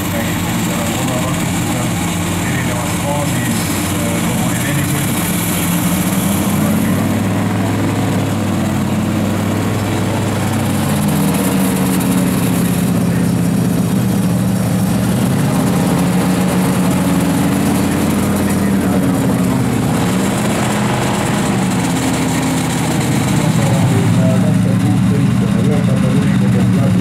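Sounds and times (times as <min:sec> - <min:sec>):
truck engines running: 0:00.0 - 0:27.0.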